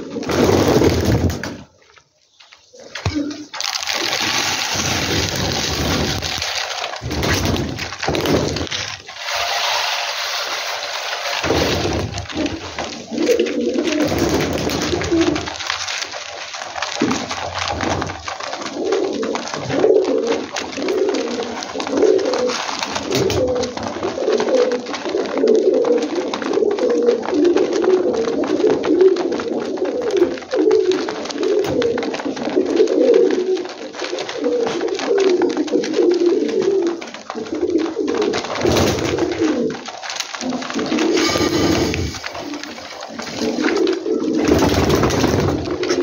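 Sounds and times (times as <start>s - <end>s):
pigeons cooing: 0.0s - 1.7s, 2.7s - 46.0s
beaks pecking grain: 0.0s - 46.0s.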